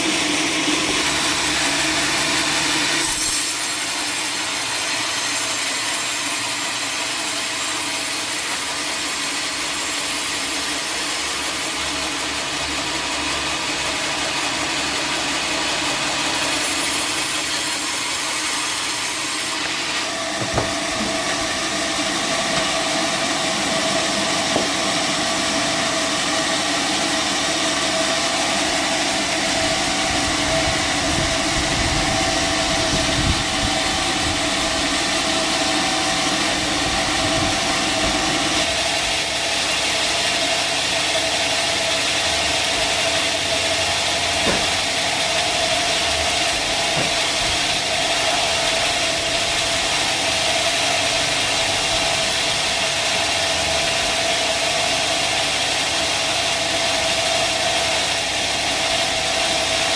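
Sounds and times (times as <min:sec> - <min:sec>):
saw cutting through a log: 0:00.0 - 0:59.9.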